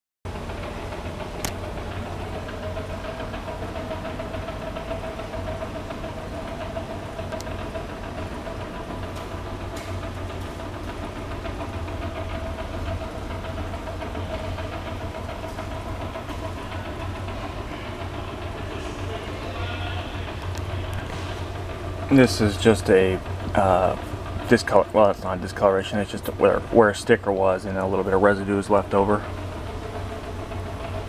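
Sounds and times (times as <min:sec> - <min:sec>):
low mechanical hum: 0:00.3 - 0:31.0.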